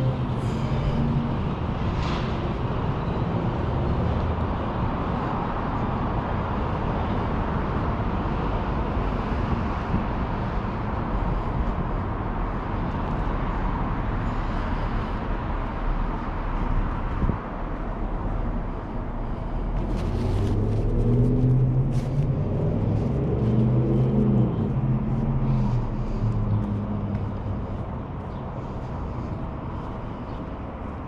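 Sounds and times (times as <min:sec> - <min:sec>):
outdoor street noise: 0:00.0 - 0:31.0
vehicle passing: 0:00.0 - 0:31.0.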